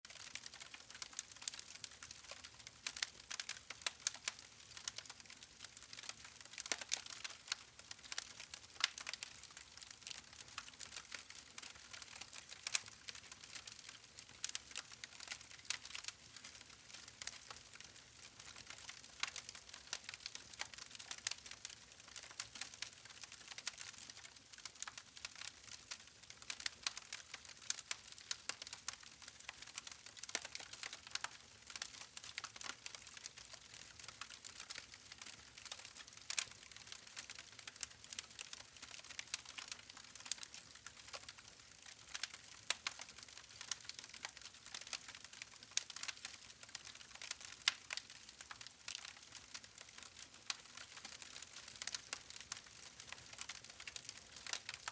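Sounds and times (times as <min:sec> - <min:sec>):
campfire crackling and popping: 0:00.1 - 0:54.9.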